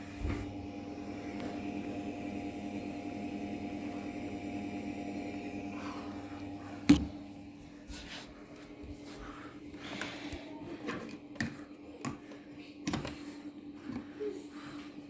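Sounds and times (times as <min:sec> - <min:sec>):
egg incubator humming: 0:00.0 - 0:15.0.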